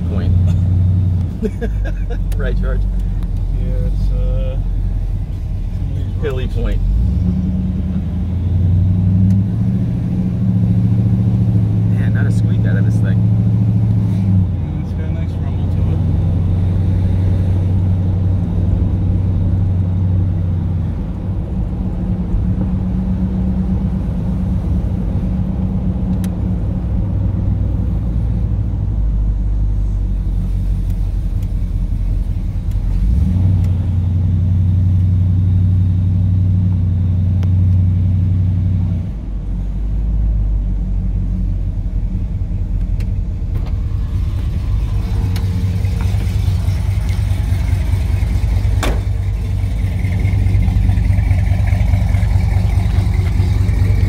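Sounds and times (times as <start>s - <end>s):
engine exhaust drone: 0.0s - 54.0s.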